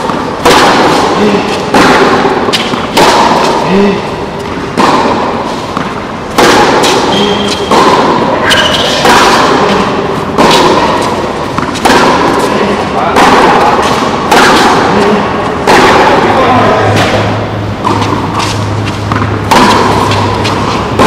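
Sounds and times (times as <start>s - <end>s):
tennis racket hitting ball: 0.0s - 21.0s.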